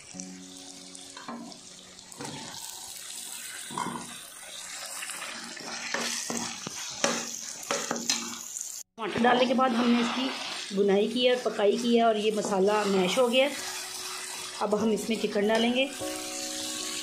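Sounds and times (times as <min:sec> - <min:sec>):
tomatoes sizzling in hot oil: 0:00.0 - 0:17.0
metal spoon scraping a pan: 0:01.1 - 0:08.5, 0:09.1 - 0:17.0.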